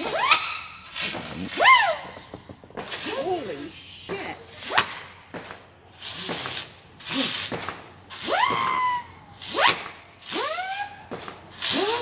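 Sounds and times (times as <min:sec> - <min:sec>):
fireworks hissing: 0:00.0 - 0:12.0
whistling fireworks: 0:00.0 - 0:12.0.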